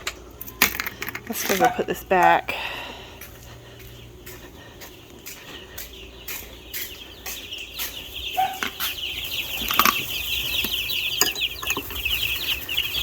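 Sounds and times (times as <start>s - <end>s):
chicks peeping: 1.5s - 13.0s.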